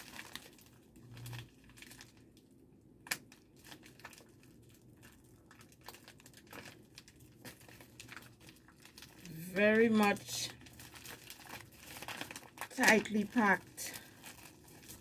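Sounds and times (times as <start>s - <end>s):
plastic envelope crinkling: 0.0s - 15.0s.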